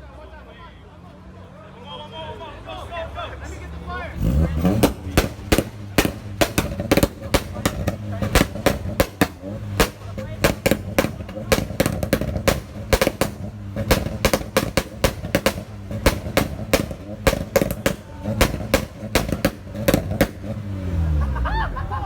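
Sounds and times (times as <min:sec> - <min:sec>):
car engine rumbling: 0:02.4 - 0:22.0
exhaust popping and banging: 0:04.2 - 0:22.0.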